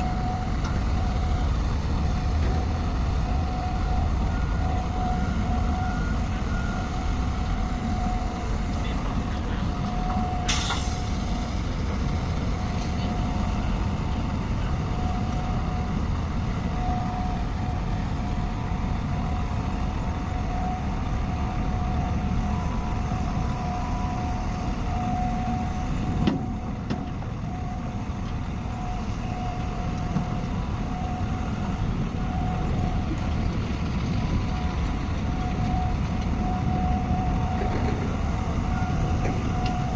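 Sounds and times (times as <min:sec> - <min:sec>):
heavy machinery engine rumble: 0:00.0 - 0:39.9.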